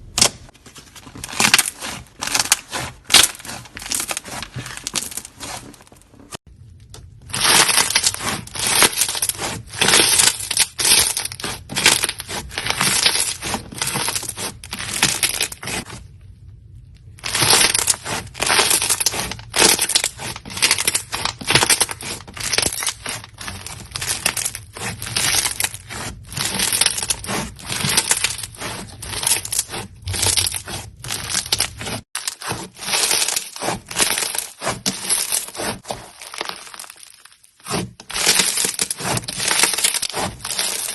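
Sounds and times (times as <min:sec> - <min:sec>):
brittle crunching and crackling: 0:00.0 - 0:40.9.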